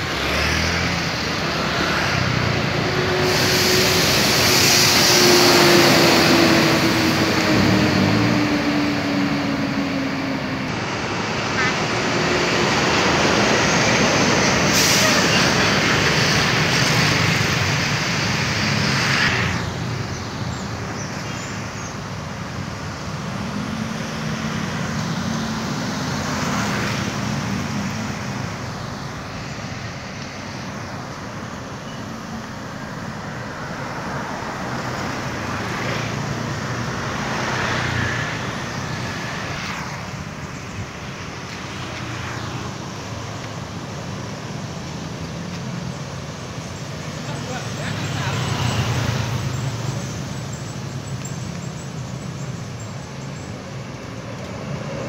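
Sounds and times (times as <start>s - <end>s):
bus passing close: 0.0s - 55.0s
road traffic engines: 0.0s - 55.0s.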